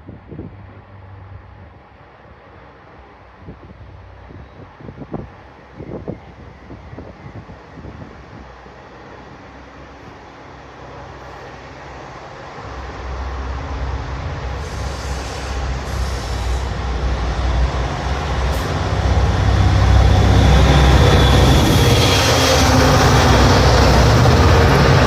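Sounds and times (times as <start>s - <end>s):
diesel locomotive engines drumming: 0.0s - 25.0s.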